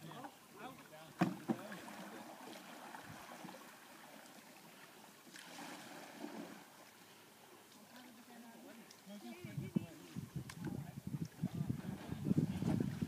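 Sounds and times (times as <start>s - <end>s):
soft hiss of water and air: 0.0s - 13.0s.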